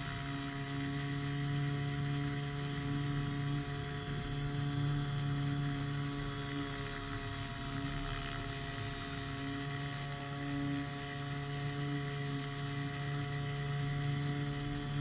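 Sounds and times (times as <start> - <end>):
powered hang glider engine droning: 0.0 - 15.0.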